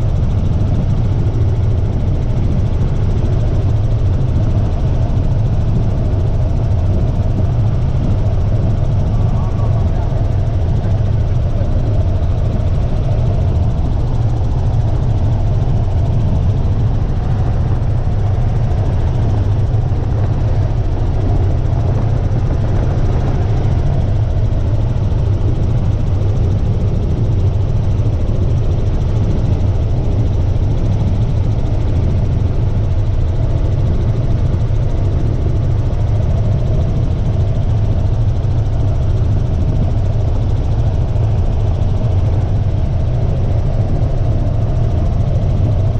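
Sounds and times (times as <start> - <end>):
helicopter engine and rotor drone: 0.0 - 45.9.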